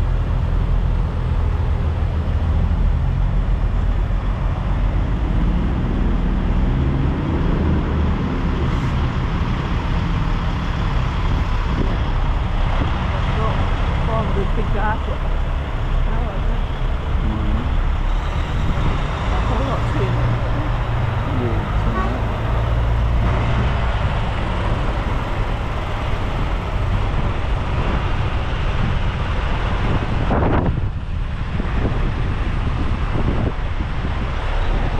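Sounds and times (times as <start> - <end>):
traffic noise: 0.0 - 34.9
truck diesel engines rumbling: 0.0 - 34.9.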